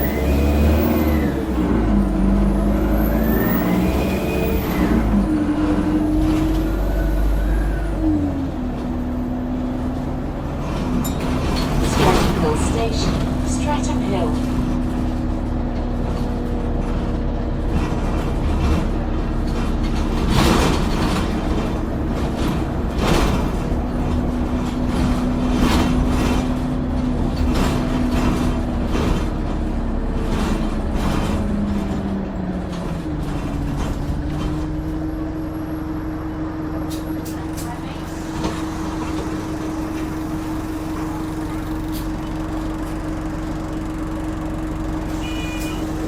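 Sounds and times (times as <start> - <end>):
bus body rattling and knocking: 0.0 - 46.0
bus engine with turbo whine: 0.0 - 46.0.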